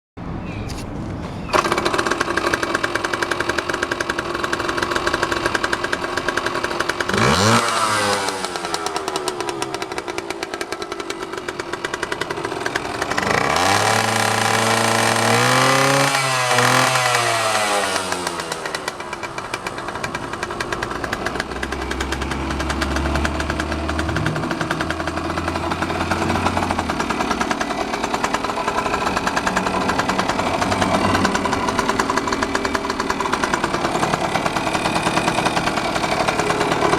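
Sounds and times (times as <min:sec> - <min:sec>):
small two-stroke engine revving: 0:01.5 - 0:36.9.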